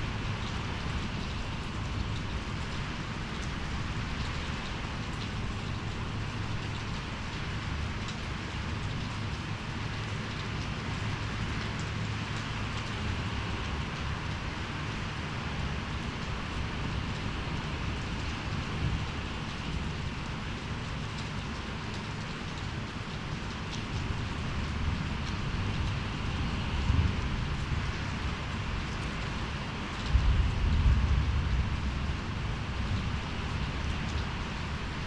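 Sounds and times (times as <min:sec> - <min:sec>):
heavy rain pouring: 0:00.0 - 0:35.0
raindrops ticking: 0:00.0 - 0:35.0.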